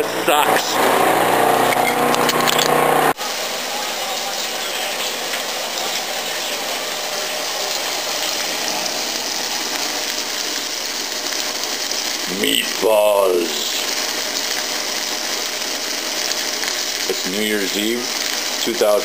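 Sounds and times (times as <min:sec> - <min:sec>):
meatballs sizzling in a pan: 0:03.1 - 0:19.0.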